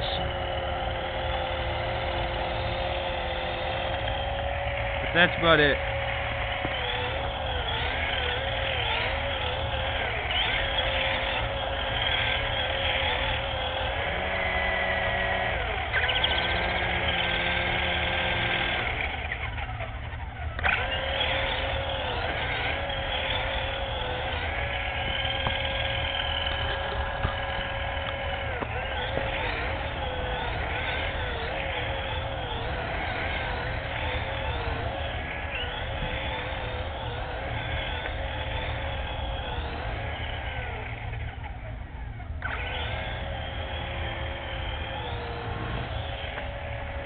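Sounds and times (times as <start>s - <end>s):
rc helicopter motor whine: 0.0s - 47.0s.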